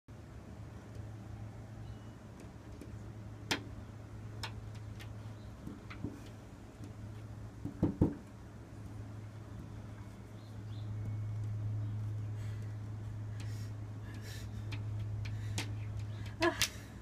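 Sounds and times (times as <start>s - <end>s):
low steady hum: 0.1s - 17.0s.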